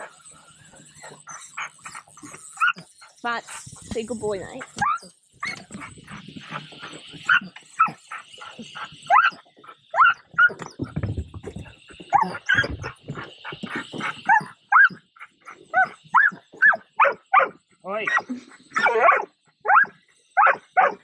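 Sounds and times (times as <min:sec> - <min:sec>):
dog barking and yelping: 0:00.0 - 0:03.2, 0:04.6 - 0:10.8, 0:12.1 - 0:21.0.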